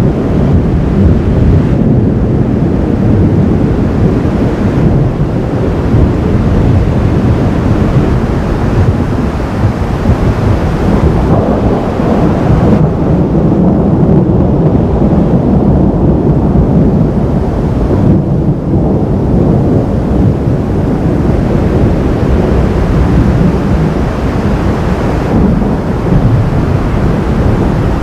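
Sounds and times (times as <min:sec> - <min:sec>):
rolling thunder: 0:00.0 - 0:28.0.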